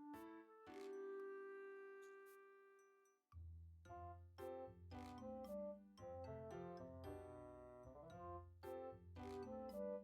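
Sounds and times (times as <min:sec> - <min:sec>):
keyboard background music: 0:00.0 - 0:02.7, 0:03.9 - 0:10.0.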